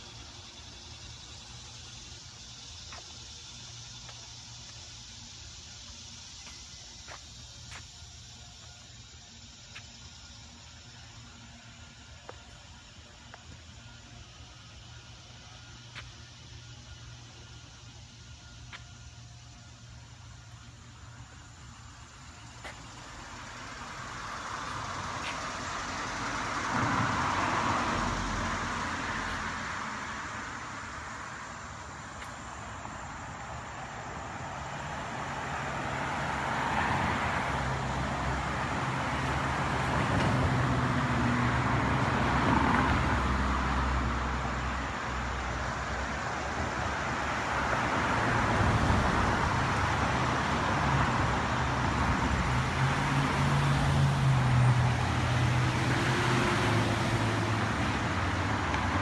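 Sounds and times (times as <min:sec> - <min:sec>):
cars passing: 0:00.0 - 0:59.0.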